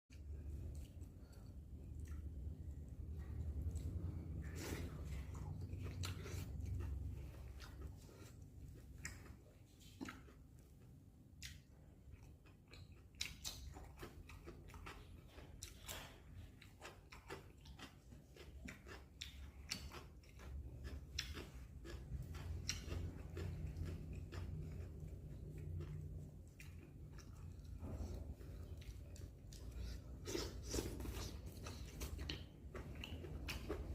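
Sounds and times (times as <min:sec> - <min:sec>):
person chewing food: 0:00.1 - 0:33.9.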